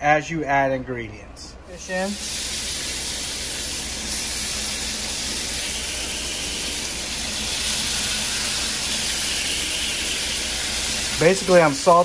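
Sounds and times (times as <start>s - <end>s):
fish sizzling in butter: 2.2s - 12.0s.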